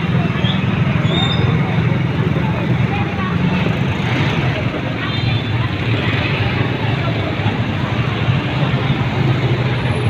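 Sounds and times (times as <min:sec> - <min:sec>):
motorcycle and scooter engines passing: 0:00.0 - 0:10.0.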